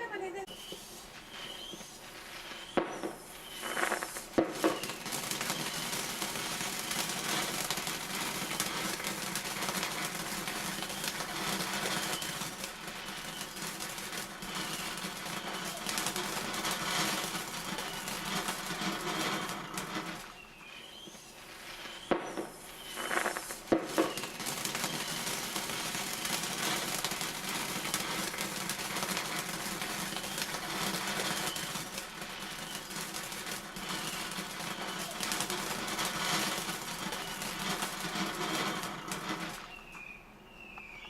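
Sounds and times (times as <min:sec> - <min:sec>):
bonfire crackling: 0:00.0 - 0:40.0
fire popping sharply: 0:00.0 - 0:40.0.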